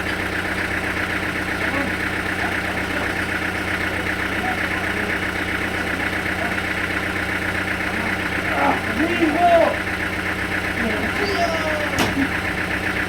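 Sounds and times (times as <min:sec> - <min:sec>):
sawmill machinery humming: 0:00.0 - 0:13.0.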